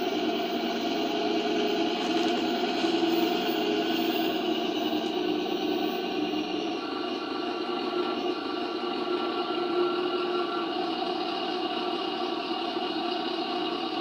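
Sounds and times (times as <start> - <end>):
simulated diesel engine from speaker: 0.0 - 14.0.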